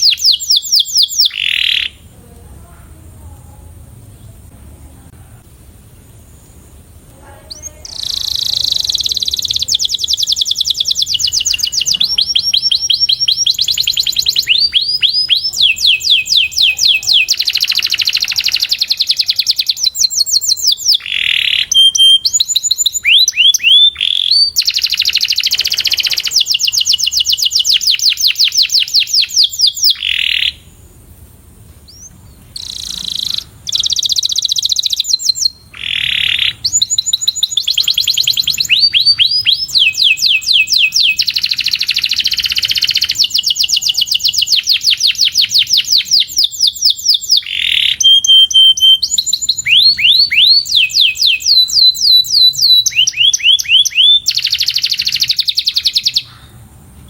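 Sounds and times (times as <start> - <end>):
canary singing trills: 0.0 - 2.3, 6.2 - 31.2, 31.8 - 56.6.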